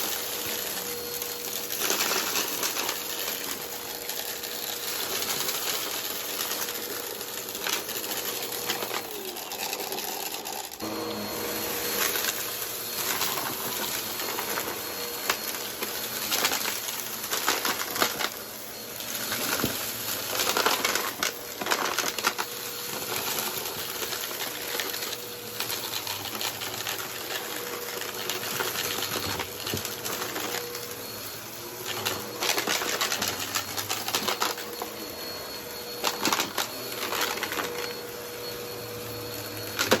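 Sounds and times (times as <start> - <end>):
vacuum cleaner running on carpet: 0.0 - 40.0.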